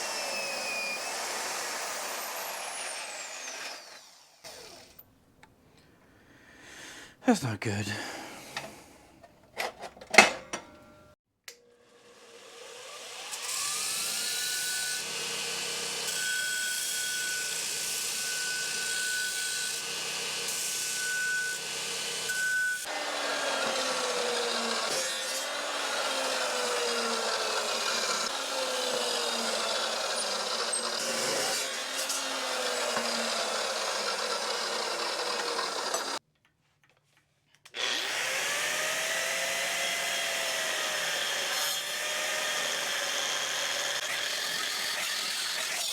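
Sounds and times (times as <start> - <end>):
electric power tool whining and cutting: 0.0 - 5.0, 12.0 - 36.2, 37.7 - 45.9.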